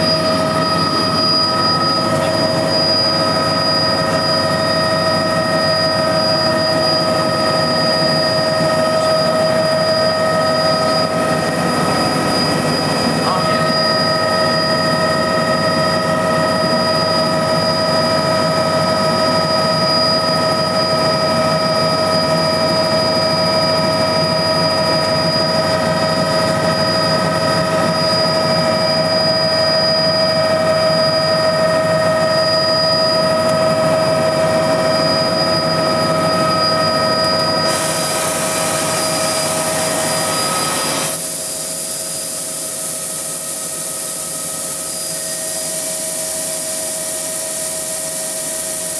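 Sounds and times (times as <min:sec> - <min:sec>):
helicopter engine and rotor rush: 0:00.0 - 0:48.9
high multi-tone whine: 0:00.0 - 0:48.9.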